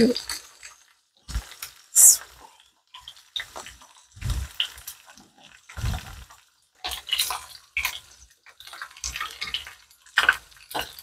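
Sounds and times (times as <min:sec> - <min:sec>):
vegetables frying in oil: 0:00.0 - 0:11.0.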